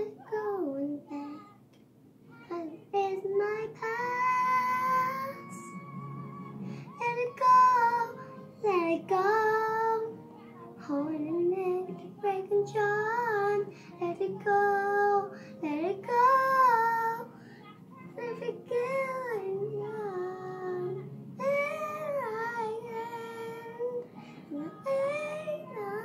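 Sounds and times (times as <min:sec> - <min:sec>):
girl singing: 0:00.0 - 0:01.7, 0:02.3 - 0:26.0.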